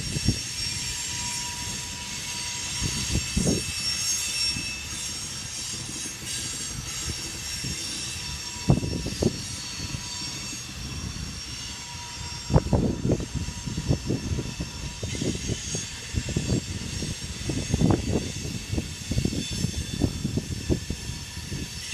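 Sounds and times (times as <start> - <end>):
wheel squeal: 0.0 - 21.9.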